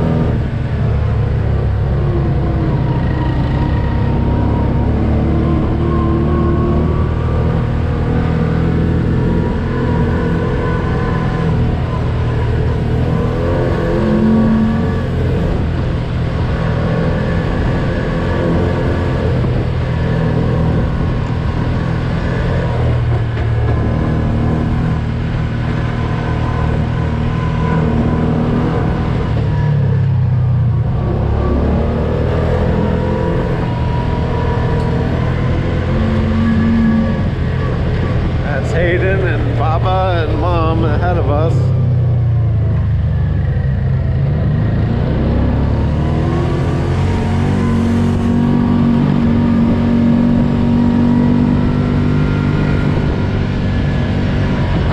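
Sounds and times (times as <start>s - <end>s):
utility vehicle engine running: 0.0s - 54.9s.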